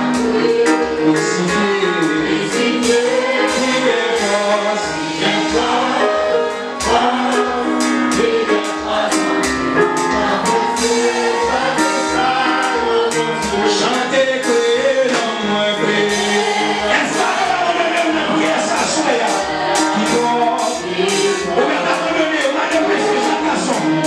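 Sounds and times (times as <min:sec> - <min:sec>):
gospel band with drum beat: 0:00.0 - 0:24.0
man singing into a microphone: 0:00.6 - 0:08.8, 0:10.1 - 0:24.0.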